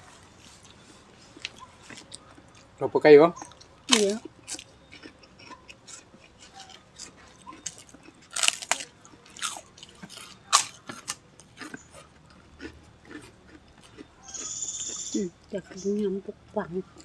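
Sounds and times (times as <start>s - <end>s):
person chewing crunchy food: 0.0s - 2.8s, 3.4s - 17.0s.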